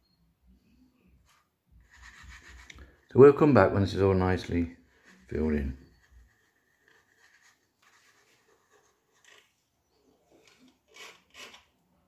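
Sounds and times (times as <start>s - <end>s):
plastic stick scraping resin: 1.2s - 3.2s, 4.0s - 12.0s.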